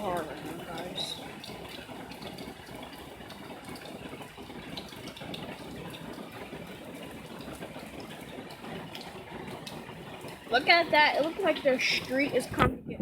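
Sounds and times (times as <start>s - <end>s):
close raindrops splashing: 0.0s - 12.8s
heavy rain pouring: 0.0s - 12.8s.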